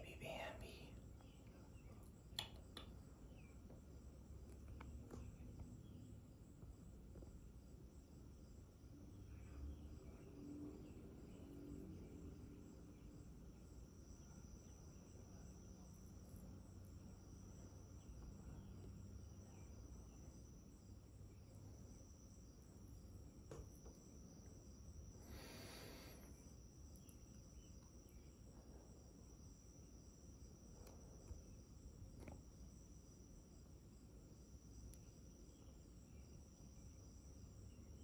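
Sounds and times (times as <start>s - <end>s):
high-pitched insects droning: 0.0s - 38.0s.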